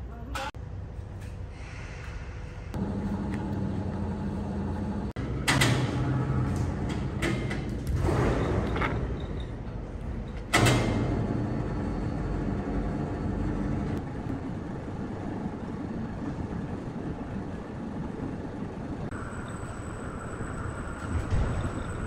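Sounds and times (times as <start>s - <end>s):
machine motor humming: 2.8s - 22.0s.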